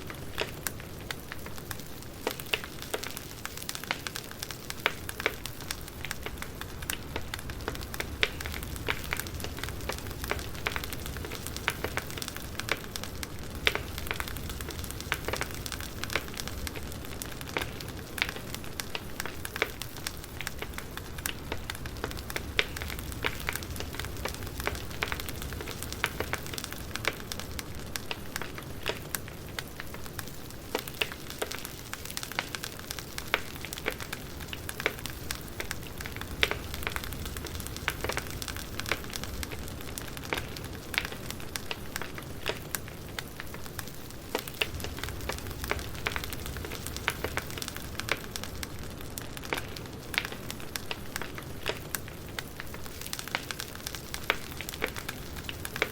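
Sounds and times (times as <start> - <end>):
campfire crackling and popping: 0.0 - 55.9
low rumble and hiss: 0.0 - 55.9.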